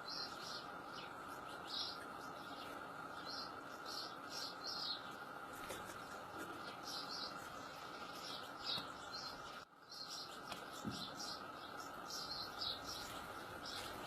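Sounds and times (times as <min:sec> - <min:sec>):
goldfinch chirping: 0:00.0 - 0:05.3, 0:06.0 - 0:14.0
steady background noise: 0:00.0 - 0:14.0.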